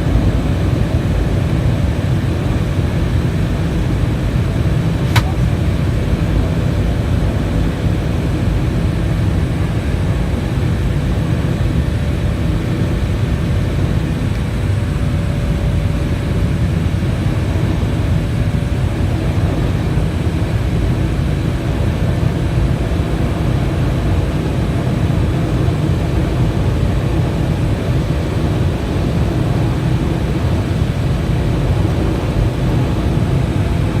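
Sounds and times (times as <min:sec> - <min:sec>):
jet engines rumbling in cabin: 0:00.0 - 0:34.0.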